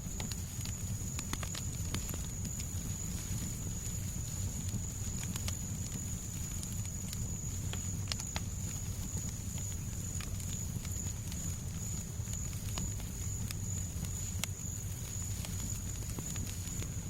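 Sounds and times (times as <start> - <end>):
fireplace crackling and popping: 0.0 - 17.0
low rumble of white noise: 0.0 - 17.0.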